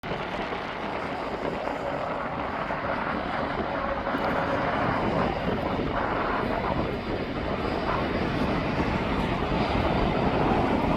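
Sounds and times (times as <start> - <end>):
jet engines rushing: 0.0 - 10.9.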